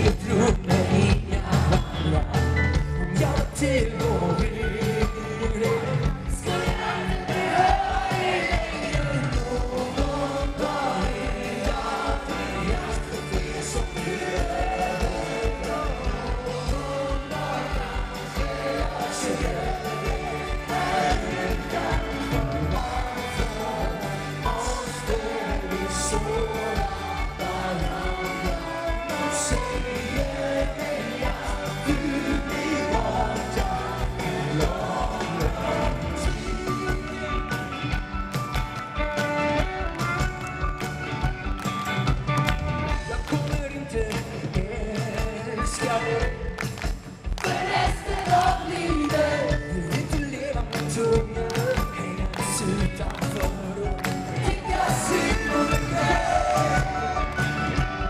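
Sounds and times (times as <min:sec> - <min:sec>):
man singing: 0:00.0 - 0:38.0, 0:42.9 - 0:46.6, 0:47.4 - 0:58.0
live pop-rock band: 0:00.0 - 0:58.0.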